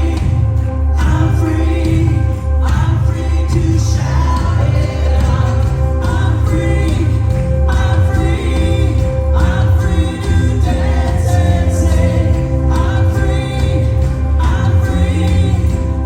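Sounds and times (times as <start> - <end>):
band with heavy bass: 0.0 - 16.0
choir singing praise song: 0.0 - 16.0.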